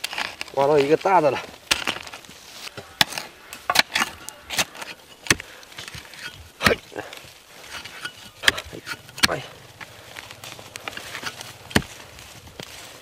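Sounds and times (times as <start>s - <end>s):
hoe striking clay soil: 0.0s - 13.0s.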